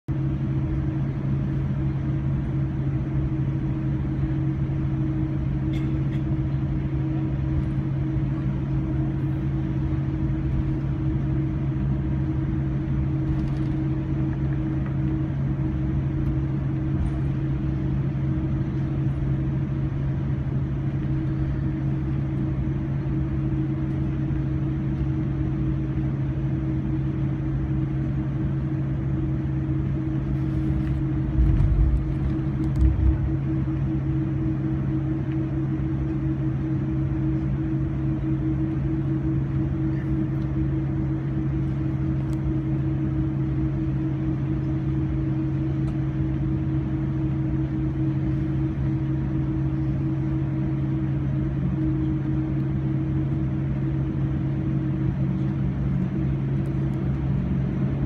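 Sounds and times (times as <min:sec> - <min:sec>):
aircraft cabin rumble: 0:00.1 - 0:58.0
constant two-note hum: 0:00.1 - 0:58.0.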